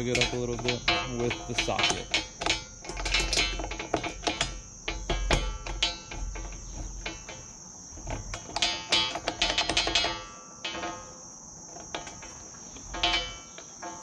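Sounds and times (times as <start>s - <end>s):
light metal clinks: 0.0s - 14.0s.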